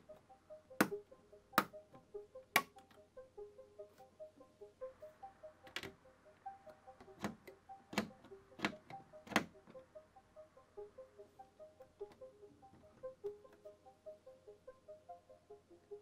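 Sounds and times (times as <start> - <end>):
light background music: 0.0 - 16.0.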